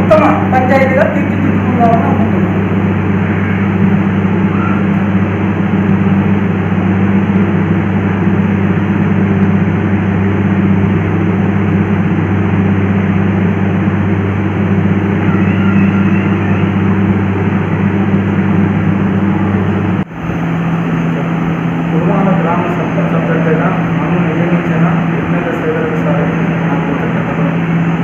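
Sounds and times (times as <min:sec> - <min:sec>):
heavy engine droning: 0:00.0 - 0:28.0.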